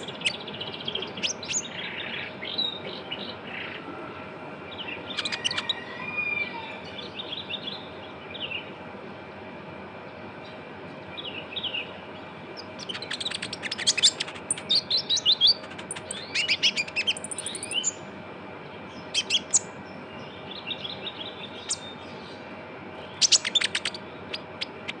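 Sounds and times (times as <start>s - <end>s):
sunbird singing fast chirps and trills: 0.0s - 9.2s, 10.2s - 25.0s.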